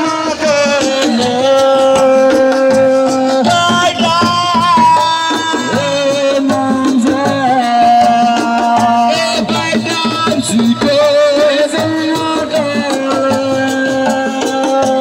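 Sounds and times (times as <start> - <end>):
fast hand-drum percussion: 0.0 - 15.0
person singing long notes: 0.0 - 15.0.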